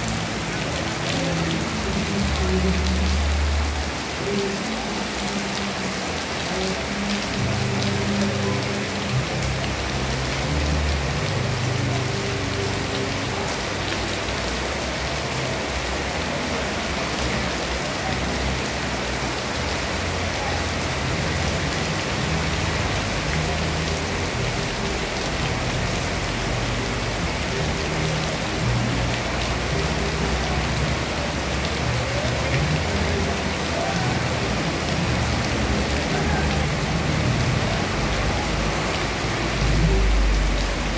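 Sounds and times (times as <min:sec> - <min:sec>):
heavy rain pouring: 0:00.0 - 0:40.9
running floodwater: 0:00.0 - 0:40.9.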